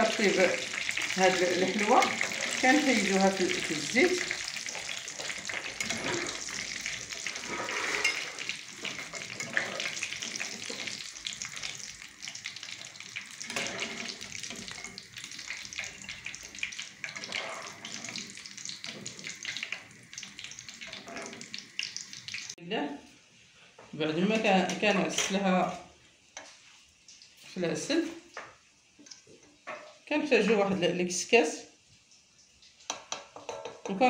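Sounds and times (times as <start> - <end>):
dough deep-frying in oil: 0.0 - 22.6, 24.5 - 34.0.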